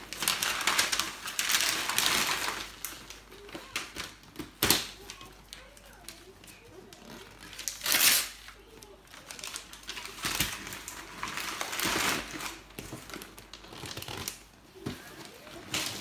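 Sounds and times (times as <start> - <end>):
wrapping paper rustling: 0.0 - 16.0.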